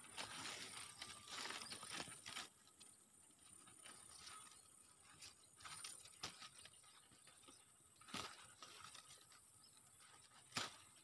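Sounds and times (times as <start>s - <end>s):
soft ticks and rustles: 0.0s - 11.0s.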